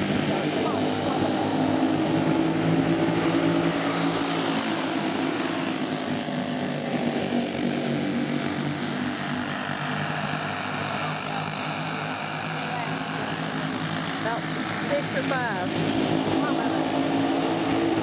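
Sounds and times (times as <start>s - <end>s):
kart engines buzzing: 0.0s - 18.0s.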